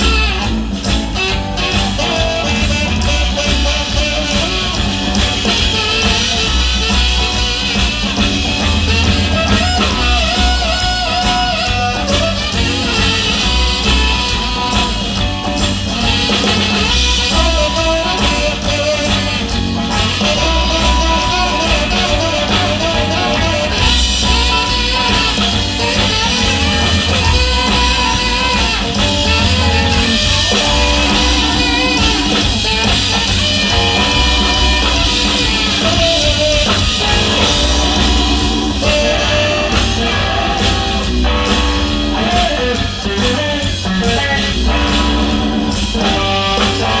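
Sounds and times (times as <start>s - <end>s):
drum kit: 0.0s - 47.0s
electric guitar: 0.0s - 47.0s.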